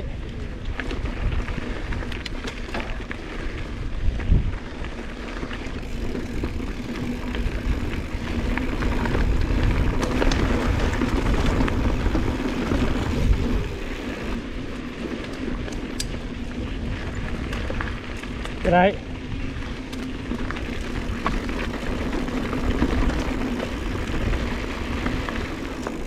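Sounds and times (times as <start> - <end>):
bike clicks and rattles: 0.0 - 26.0
bike tyres rolling on dirt: 0.0 - 26.0
wind buffeting microphone: 0.0 - 26.0.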